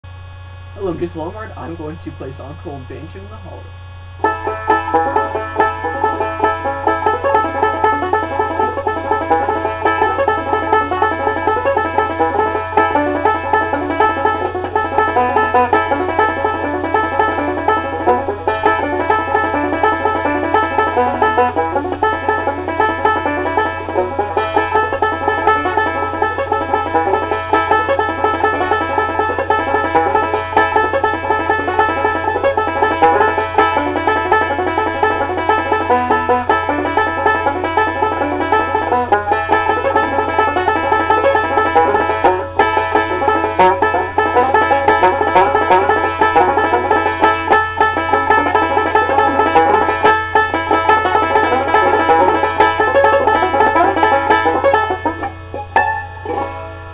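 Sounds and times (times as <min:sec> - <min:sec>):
low electrical hum: 0:00.0 - 0:56.9
banjo picked fast: 0:00.7 - 0:56.9.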